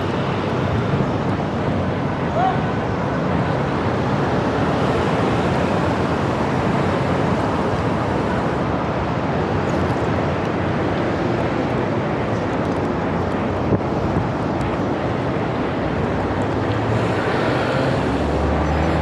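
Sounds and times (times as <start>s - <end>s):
road traffic: 0.0s - 19.0s
wind on microphone: 0.0s - 19.0s.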